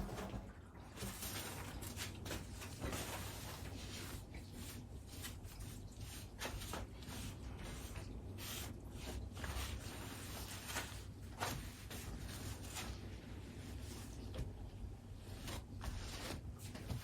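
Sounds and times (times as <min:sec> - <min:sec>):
low steady hum: 0:00.0 - 0:17.0
hands scraping and rustling food: 0:01.0 - 0:17.0.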